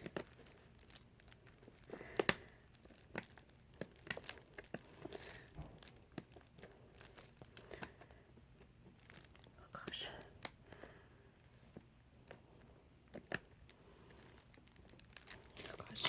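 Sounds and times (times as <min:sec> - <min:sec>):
plastic wrapping crinkling: 0:00.0 - 0:16.0.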